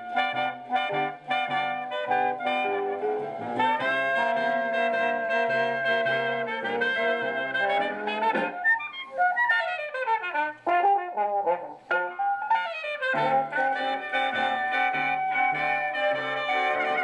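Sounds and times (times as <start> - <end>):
horn-led jazz music from a record: 0.0 - 17.0.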